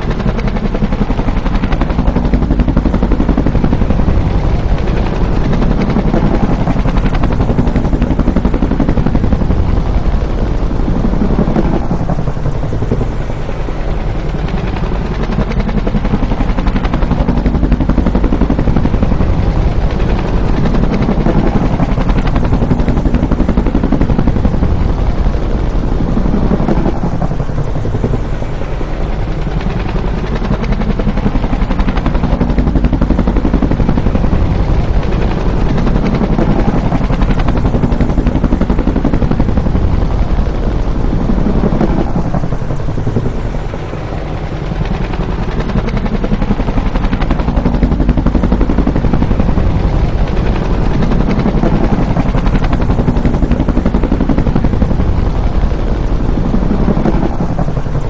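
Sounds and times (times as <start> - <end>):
helicopter rotor chopping: 0.0 - 58.0
turbine whine: 0.0 - 58.0.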